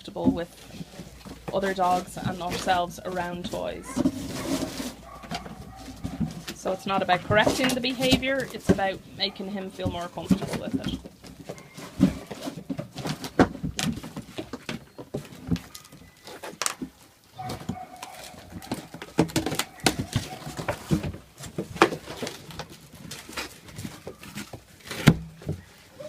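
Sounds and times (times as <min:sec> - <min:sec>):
puppies knocking cardboard boxes: 0:00.0 - 0:26.0.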